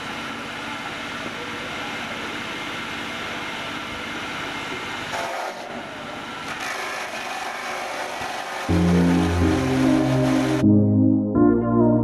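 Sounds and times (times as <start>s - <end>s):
workshop machine noise: 0.0s - 10.6s.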